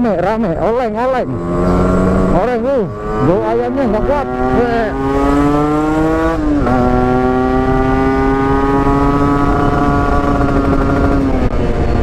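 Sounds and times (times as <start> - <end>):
motorcycle engine at high revs: 0.4 - 12.0
wind noise on microphone: 1.3 - 12.0.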